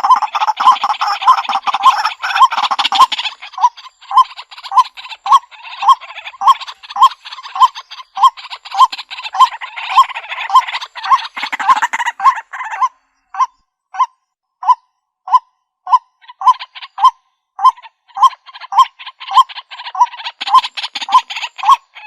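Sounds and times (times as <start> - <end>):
bird nasal kwak calls: 0.0 - 22.0
rapid bird chattering: 0.0 - 22.0.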